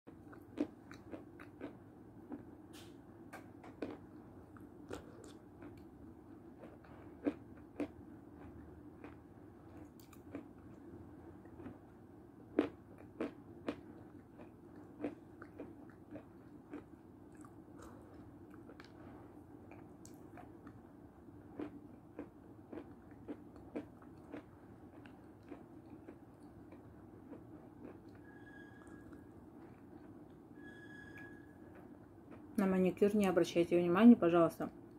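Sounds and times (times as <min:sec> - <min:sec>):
faint chewing: 0:00.1 - 0:30.4
low steady hum: 0:00.1 - 0:34.9.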